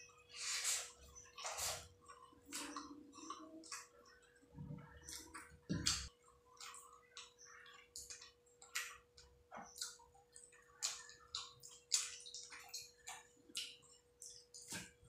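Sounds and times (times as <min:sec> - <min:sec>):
wet clicks and squishes of food: 0:01.1 - 0:15.0.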